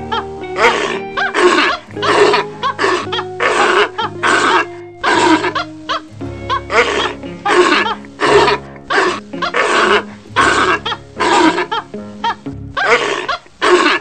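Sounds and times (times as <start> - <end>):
background music with low held notes: 0.0 - 14.0
harsh animal calls: 0.0 - 14.0.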